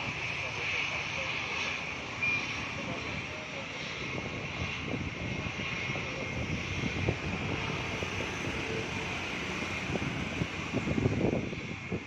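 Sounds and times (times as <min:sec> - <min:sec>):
jet engines rumbling and hissing: 0:00.0 - 0:12.0.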